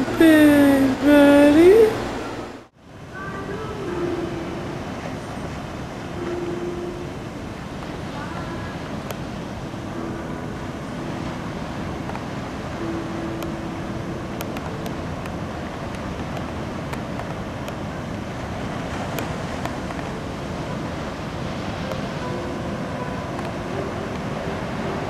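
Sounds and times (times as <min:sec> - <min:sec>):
breaking ocean surf: 0:00.0 - 0:25.0
wind buffeting microphone: 0:00.0 - 0:25.0.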